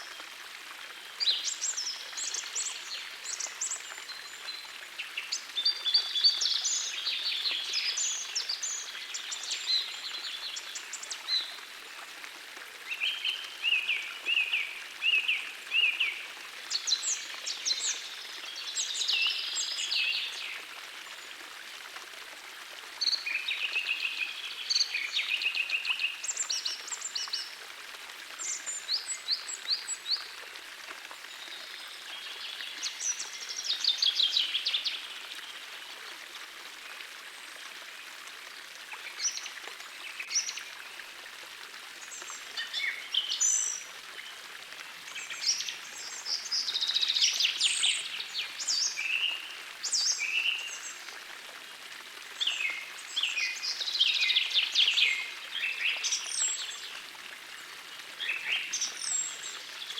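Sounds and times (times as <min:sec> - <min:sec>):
forest stream running: 0:00.0 - 0:59.9.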